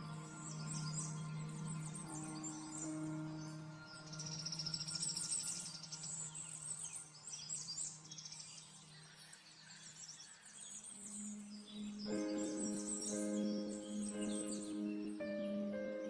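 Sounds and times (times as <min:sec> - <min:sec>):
soft music of held tones: 0:00.0 - 0:10.1, 0:10.7 - 0:16.0.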